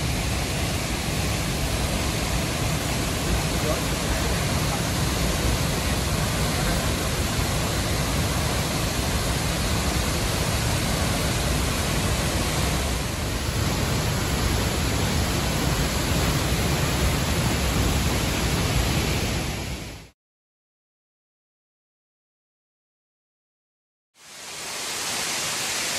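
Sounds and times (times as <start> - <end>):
waterfall rushing: 0.0 - 20.1, 24.2 - 25.9.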